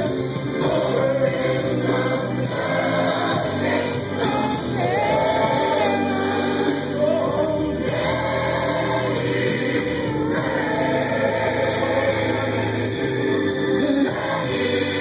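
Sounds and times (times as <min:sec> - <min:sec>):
choir singing gospel song: 0:00.0 - 0:15.0
low musical accompaniment: 0:00.0 - 0:15.0.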